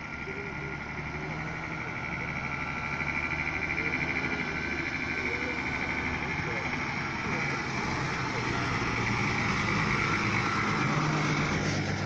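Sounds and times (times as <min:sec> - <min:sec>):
fast-pulsing chirring tone: 0:00.0 - 0:11.4
bus engine hum: 0:00.0 - 0:12.0.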